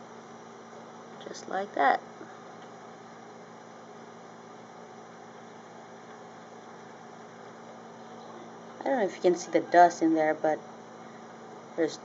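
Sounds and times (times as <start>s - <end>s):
low room hum and hiss: 0.0s - 12.0s.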